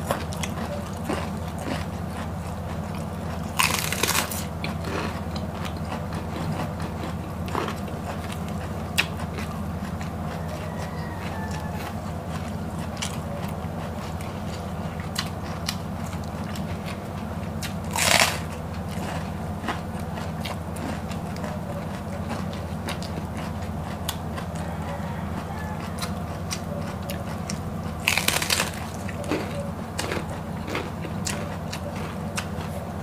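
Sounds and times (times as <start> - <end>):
loud crunching bites: 0.0 - 11.7, 17.6 - 32.8
crunchy chewing of cabbage: 0.0 - 33.0
steady low hum: 0.0 - 33.0.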